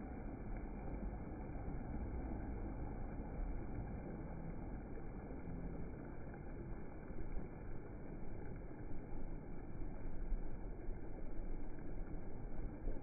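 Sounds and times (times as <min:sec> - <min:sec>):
small waves washing over sand: 0:00.0 - 0:13.0.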